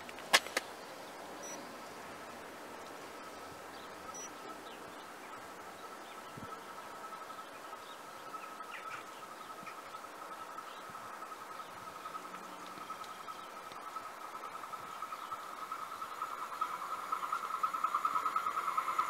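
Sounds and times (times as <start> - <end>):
faint bird chirps: 0.7 - 2.0, 2.8 - 19.0
distant electric train whine: 0.8 - 19.0.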